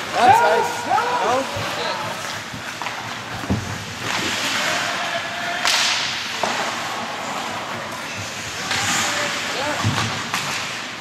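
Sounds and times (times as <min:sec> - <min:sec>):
skates scraping ice: 0:00.0 - 0:11.0.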